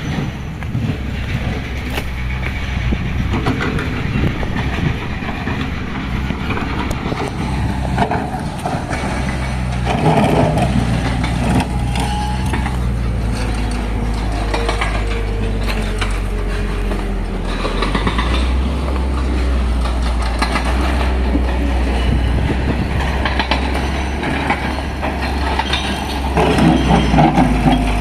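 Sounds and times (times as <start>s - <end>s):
rattles and knocks: 0.0s - 28.0s
vehicle engine rumble: 0.0s - 28.0s.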